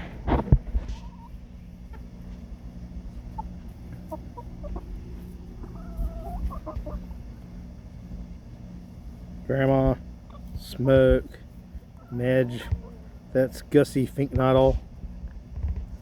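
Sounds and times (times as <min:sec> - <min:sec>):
hens clucking: 0:00.0 - 0:16.0
low steady hum: 0:00.0 - 0:16.0.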